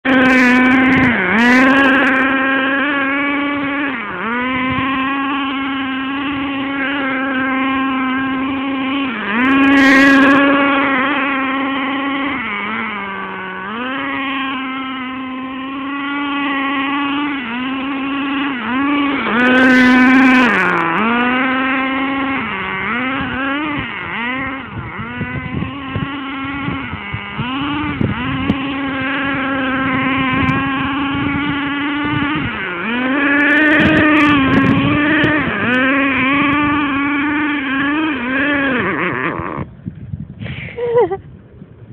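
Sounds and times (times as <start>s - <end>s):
model truck engine buzzing: 0.0s - 41.9s.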